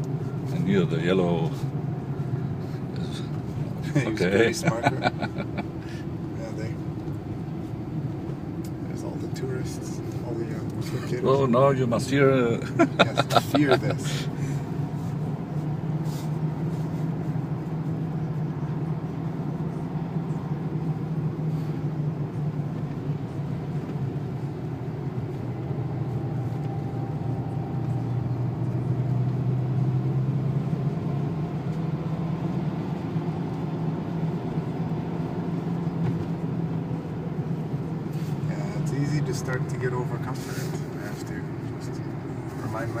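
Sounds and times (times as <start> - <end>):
car engine drone: 0.0 - 43.0.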